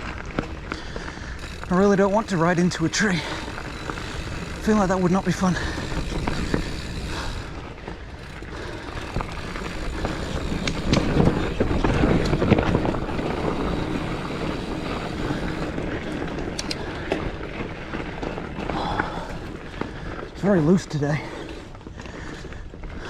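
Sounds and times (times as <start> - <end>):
tyres crunching on loose soil: 0.0 - 22.2
bike rattling: 0.0 - 23.0.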